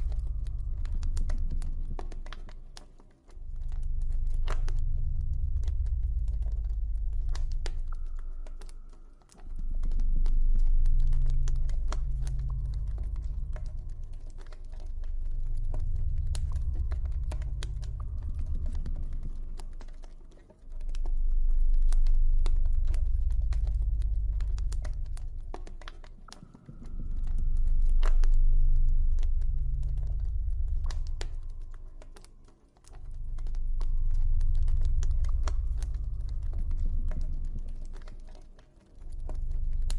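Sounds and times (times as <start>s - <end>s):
deep low ambient drone: 0.0s - 39.9s.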